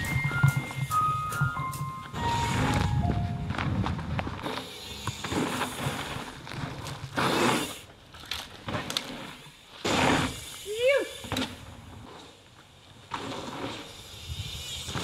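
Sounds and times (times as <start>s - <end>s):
bike clicks and rattles: 0.0s - 10.6s, 11.2s - 15.0s
bike tyres on dirt trail: 0.0s - 15.0s.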